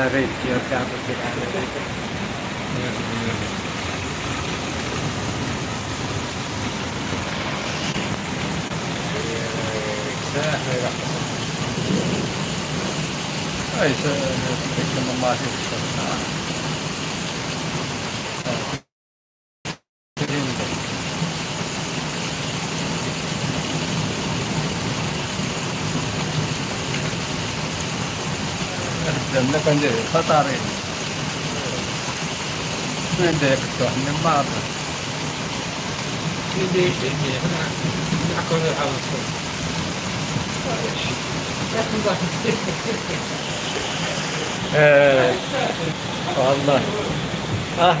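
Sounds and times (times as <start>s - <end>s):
heavy rain falling: 0.0s - 18.9s, 20.2s - 48.0s.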